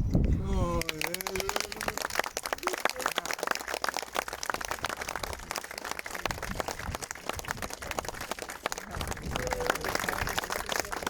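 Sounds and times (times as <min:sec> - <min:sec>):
people applauding: 0:00.6 - 0:11.0.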